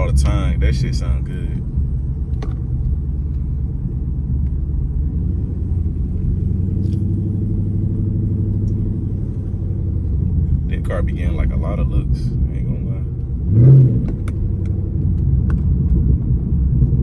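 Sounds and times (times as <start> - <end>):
car exhaust rumbling: 0.0 - 17.0.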